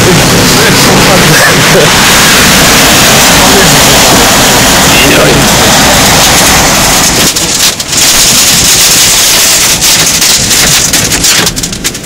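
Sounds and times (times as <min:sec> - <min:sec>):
strong wind buffeting car: 0:00.0 - 0:12.0
stones and grit striking car: 0:01.2 - 0:12.0.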